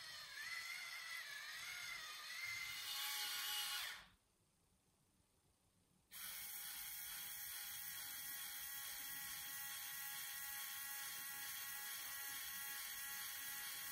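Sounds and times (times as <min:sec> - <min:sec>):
toy electric motor whining: 0:00.0 - 0:04.1, 0:06.1 - 0:13.9.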